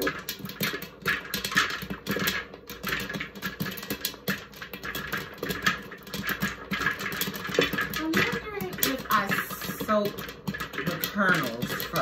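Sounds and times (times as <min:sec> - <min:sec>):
popcorn popping: 0:00.0 - 0:12.0.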